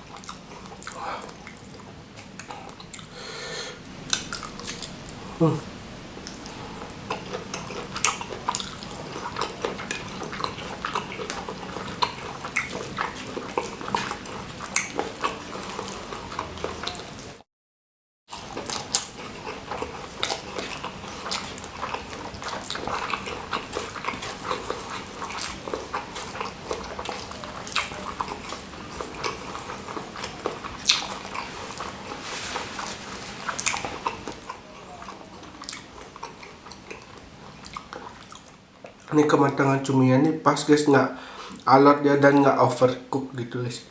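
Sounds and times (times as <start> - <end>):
person chewing food: 0.0 - 17.4, 18.3 - 39.1.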